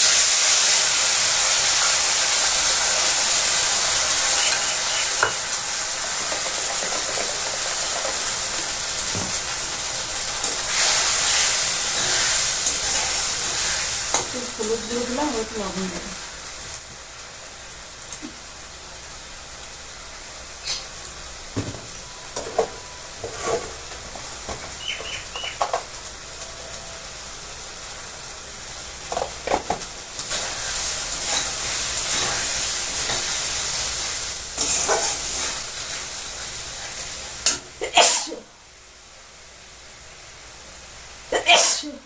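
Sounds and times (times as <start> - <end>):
spices sizzling in a pan: 0.0 - 42.0
sudden loud sizzle burst: 0.0 - 42.0.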